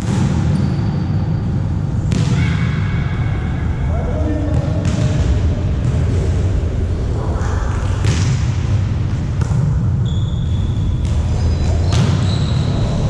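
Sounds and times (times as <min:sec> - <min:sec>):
steady low rumble: 0:01.4 - 0:11.9.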